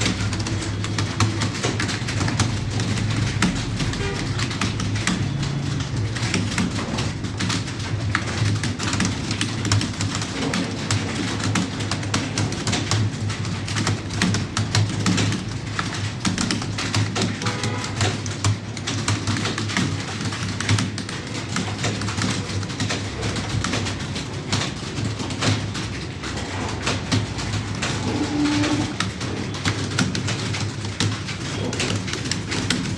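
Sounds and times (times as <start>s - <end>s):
keyboards typing fast: 0.0s - 32.9s.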